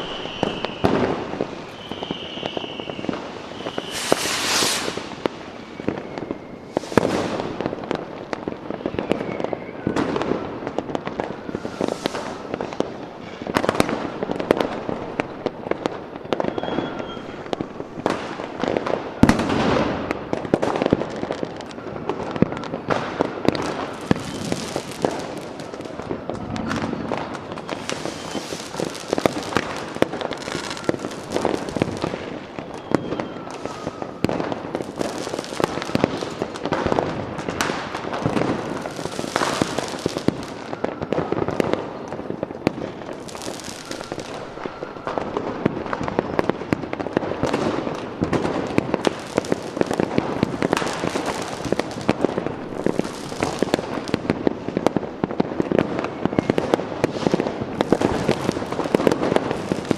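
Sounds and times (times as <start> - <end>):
faint whistling rockets: 0.0 - 59.9
fireworks bangs and crackling: 0.0 - 59.9.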